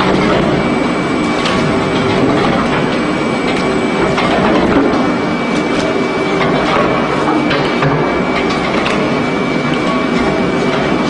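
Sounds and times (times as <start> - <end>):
thin high whine: 0.0 - 11.0.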